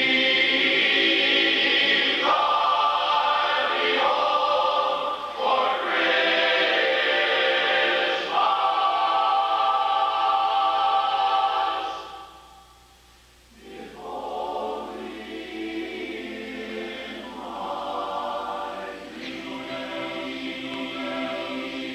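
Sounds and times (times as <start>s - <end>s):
men's chorus singing a cappella: 0.0s - 12.4s, 13.6s - 21.9s.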